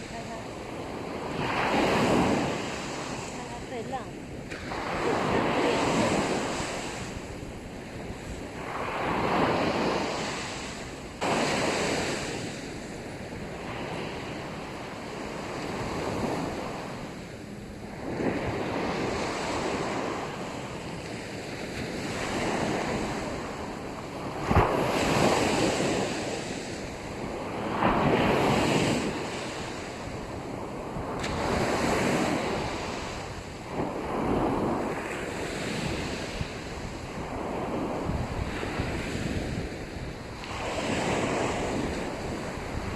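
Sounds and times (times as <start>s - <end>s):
waves breaking on sandy beach: 0.0s - 42.9s
wind on microphone: 0.0s - 42.9s.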